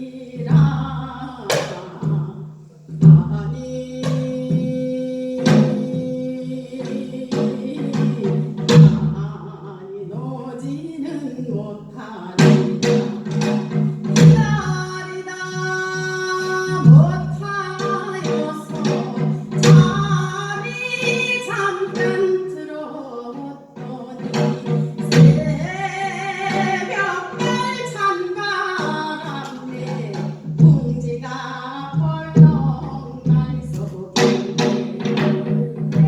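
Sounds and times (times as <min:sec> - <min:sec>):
woman singing with vibrato: 0:00.0 - 0:36.0.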